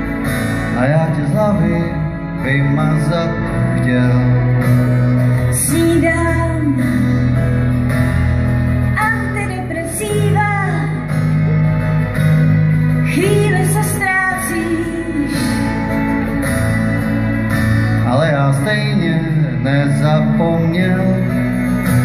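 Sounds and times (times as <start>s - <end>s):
melodic lead phrase: 0.0s - 22.0s
orchestra and band playing ballad: 0.0s - 22.0s.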